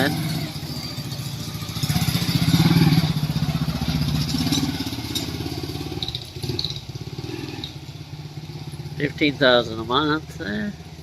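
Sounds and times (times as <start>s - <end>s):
vehicle engine pulsing: 0.0s - 11.0s.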